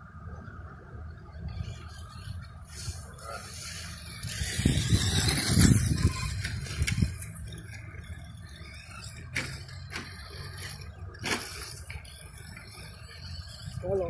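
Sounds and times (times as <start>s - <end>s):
toy truck tyres scrabbling: 1.5s - 14.0s
toy truck chassis rattling: 1.6s - 14.0s.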